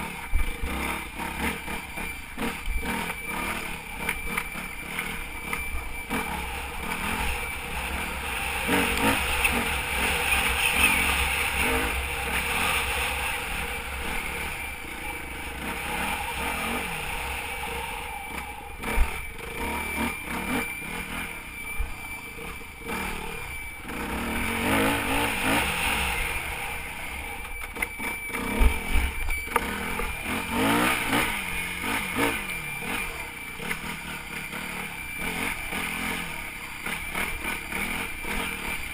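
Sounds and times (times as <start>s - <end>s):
motorcycle engine revving: 0.0s - 38.9s
steady high whistle: 0.1s - 38.9s.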